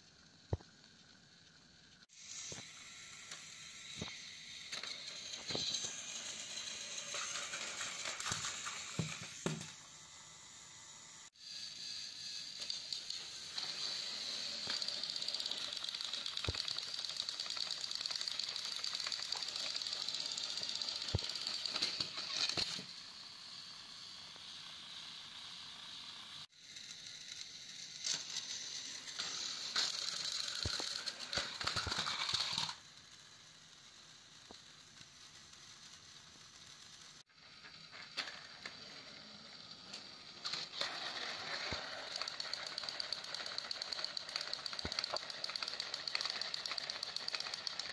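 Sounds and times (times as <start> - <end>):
toy train motors whirring: 0.0 - 47.9.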